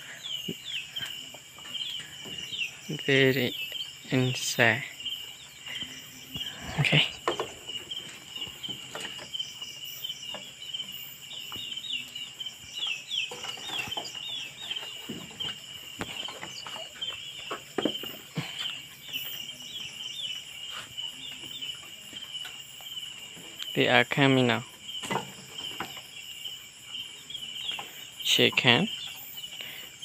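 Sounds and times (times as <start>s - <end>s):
chickens clucking: 0.0s - 30.0s
crickets chirping: 0.0s - 30.0s.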